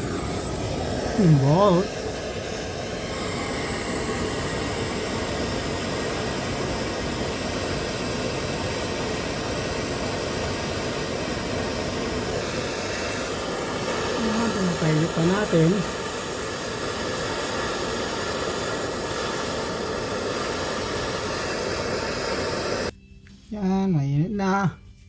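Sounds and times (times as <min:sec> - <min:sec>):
torch flame hissing: 0:00.0 - 0:23.0.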